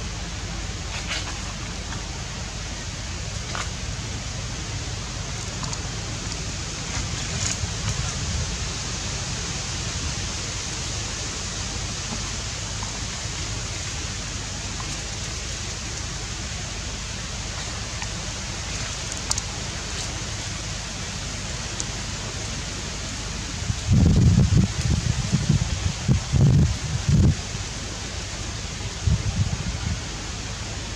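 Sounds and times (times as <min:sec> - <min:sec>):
outdoor background hiss: 0:00.0 - 0:30.9.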